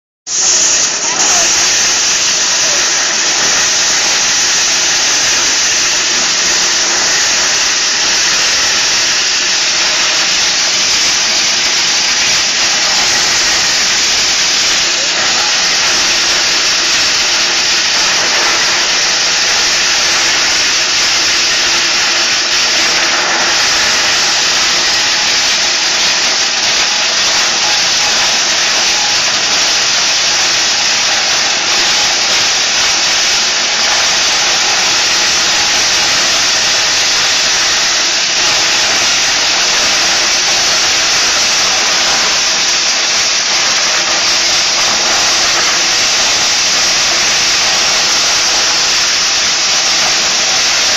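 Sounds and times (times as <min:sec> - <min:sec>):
corn sheller drum rushing: 0:00.3 - 0:50.9.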